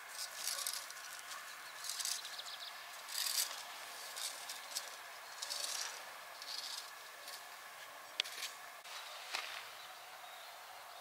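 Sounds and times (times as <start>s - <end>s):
birds chirping in the distance: 0.0s - 11.0s.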